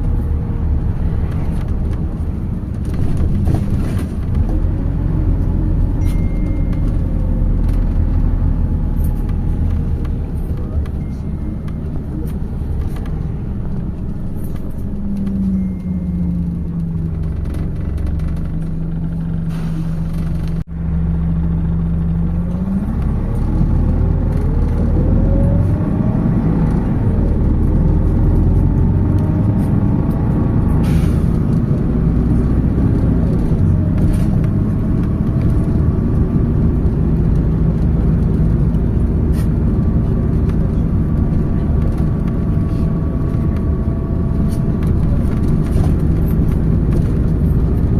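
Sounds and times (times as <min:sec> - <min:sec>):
bus engine running: 0:00.0 - 0:47.9
road noise: 0:00.0 - 0:47.9.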